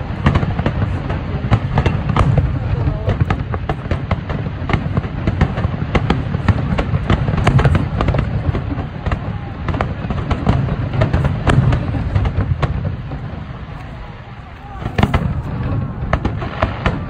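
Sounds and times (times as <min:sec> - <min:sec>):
firework shells bursting: 0:00.0 - 0:14.2.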